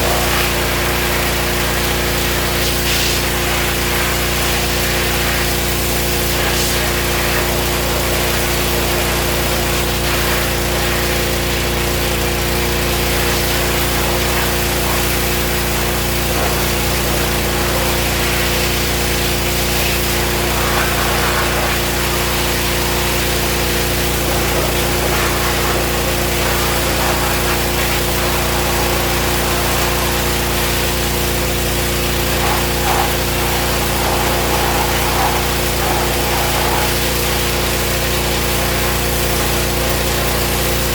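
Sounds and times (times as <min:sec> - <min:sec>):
machine motor humming with hiss: 0:00.0 - 0:40.9.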